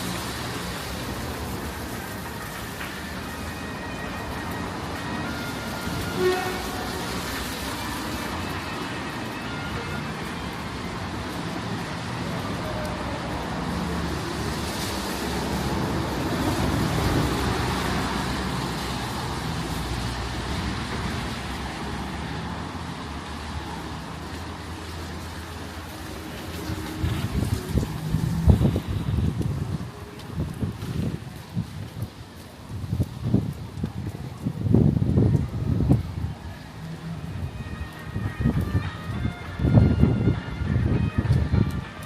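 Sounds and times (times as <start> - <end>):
passing cars road noise: 0.0 - 42.0.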